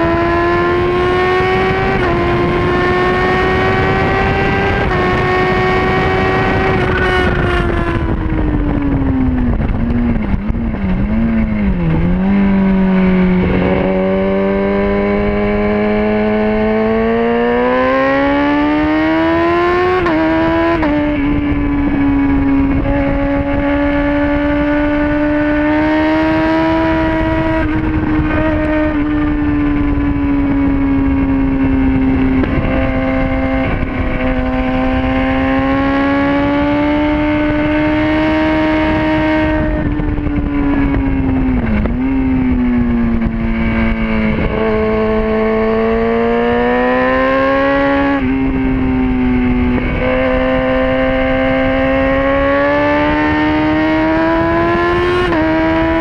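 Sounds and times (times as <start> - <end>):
motorcycle engine at high revs: 0.0 - 56.0
wind on microphone: 0.0 - 56.0.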